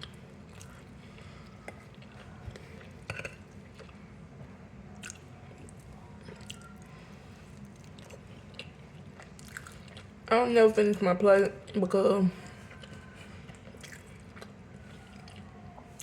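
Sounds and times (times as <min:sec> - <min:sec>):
person chewing food: 0:00.0 - 0:10.3, 0:12.4 - 0:16.0.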